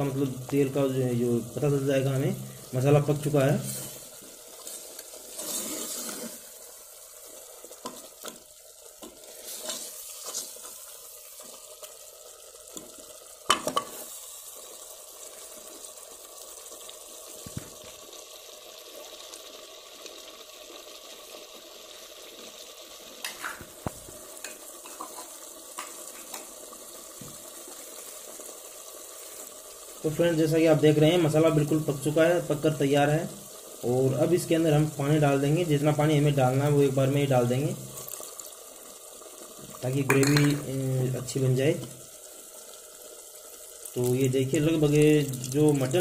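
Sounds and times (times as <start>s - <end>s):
curry sizzling in a pot: 0.0s - 46.0s.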